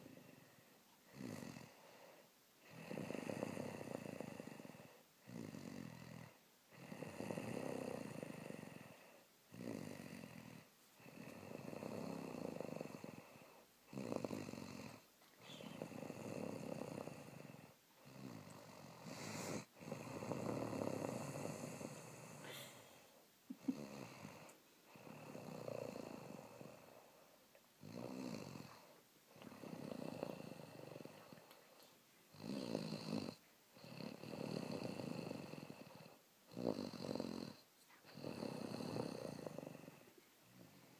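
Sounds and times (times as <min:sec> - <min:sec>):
person snoring: 0:00.0 - 0:40.9.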